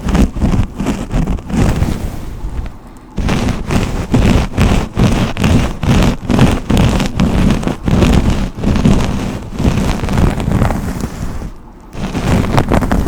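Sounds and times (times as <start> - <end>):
hairbrush brushing hair: 0.0 - 13.0.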